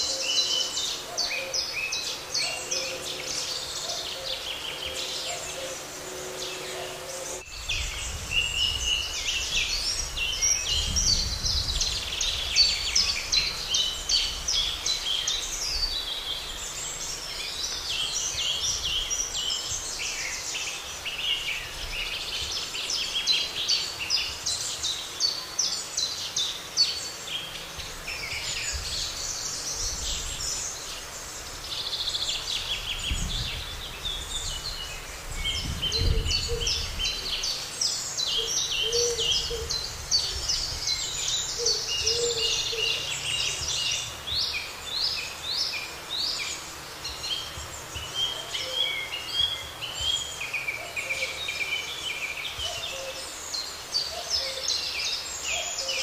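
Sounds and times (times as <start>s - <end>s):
songbirds chorus: 0.0s - 56.0s.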